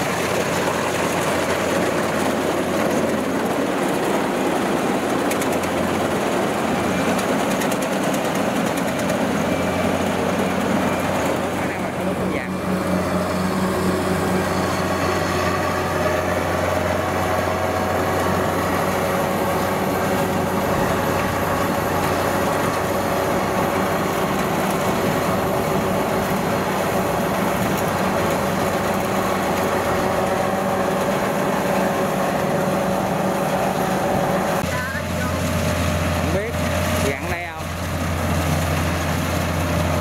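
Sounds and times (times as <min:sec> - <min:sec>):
combine harvester droning: 0:00.0 - 0:40.0.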